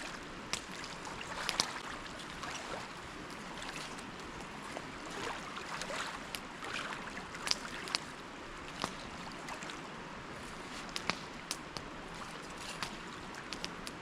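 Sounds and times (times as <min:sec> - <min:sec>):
small waves washing over rocks: 0:00.0 - 0:14.0.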